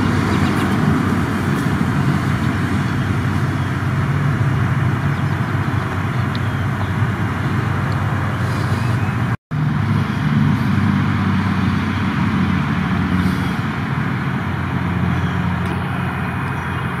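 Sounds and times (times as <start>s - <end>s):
traffic rumble: 0.0s - 17.0s
vehicle engine humming: 0.0s - 17.0s.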